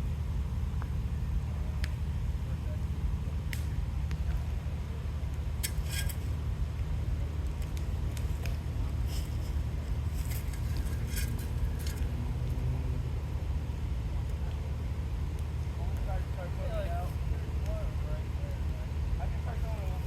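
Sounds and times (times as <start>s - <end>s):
fire truck idling: 0.0s - 12.3s, 13.0s - 20.0s.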